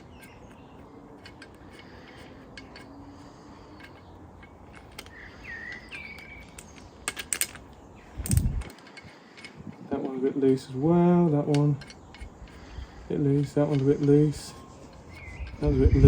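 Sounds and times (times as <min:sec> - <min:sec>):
wrench clicking: 0:00.0 - 0:09.8, 0:10.4 - 0:15.9
faint birdsong: 0:00.0 - 0:16.0.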